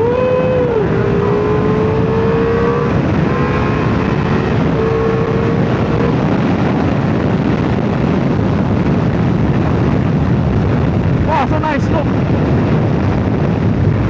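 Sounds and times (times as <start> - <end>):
heavy wind and road rush: 0.0 - 14.0
motorcycle engine running: 0.0 - 14.0.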